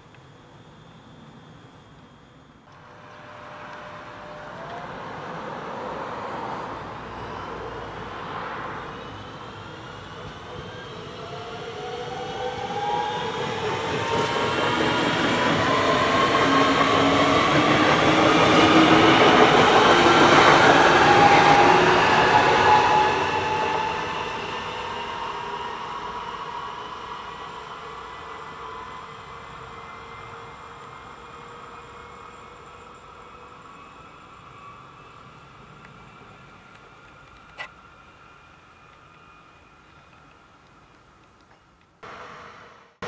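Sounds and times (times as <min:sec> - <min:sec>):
train passing by: 0:00.0 - 0:43.0
train motor whine: 0:00.1 - 0:40.9.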